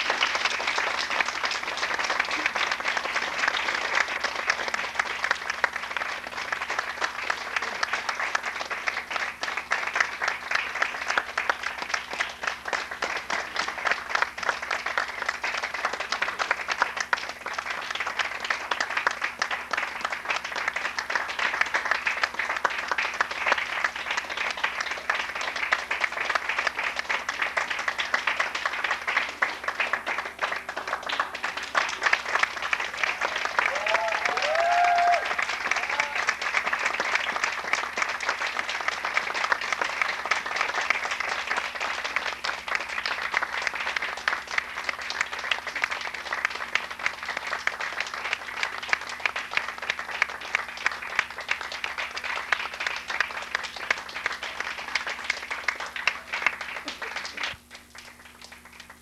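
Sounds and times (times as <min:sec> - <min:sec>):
audience applauding: 0:00.0 - 0:59.0.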